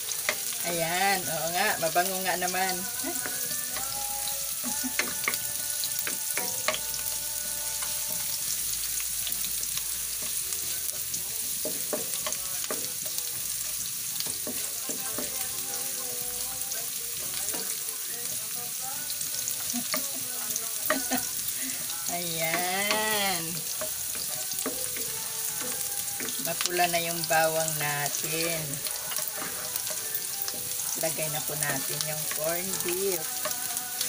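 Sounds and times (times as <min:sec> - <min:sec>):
garlic sizzling in hot oil: 0:00.0 - 0:34.0.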